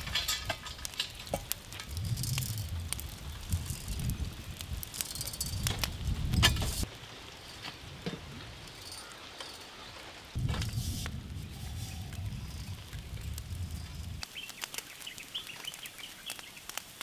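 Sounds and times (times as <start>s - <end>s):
charcoal crackling: 0.0s - 17.0s.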